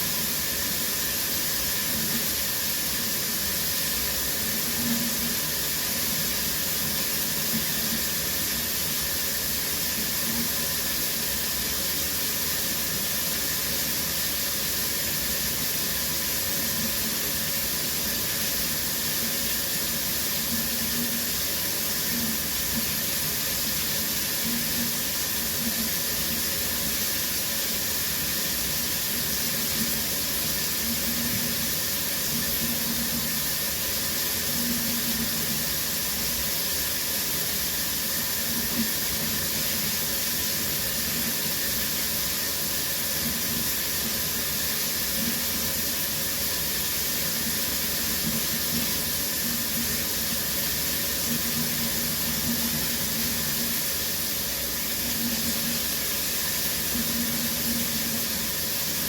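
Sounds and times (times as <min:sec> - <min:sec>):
shower water spraying: 0:00.0 - 0:59.0.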